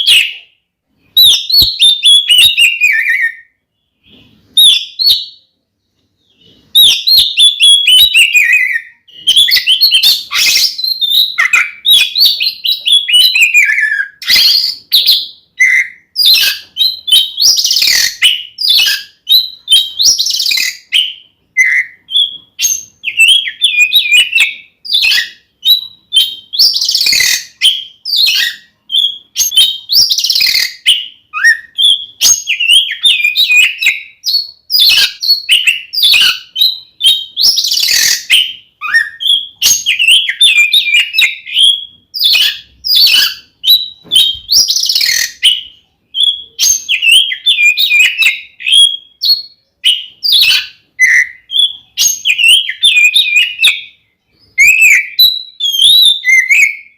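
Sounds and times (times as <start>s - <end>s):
bird singing whistled phrases: 0.0s - 5.5s, 6.2s - 56.9s.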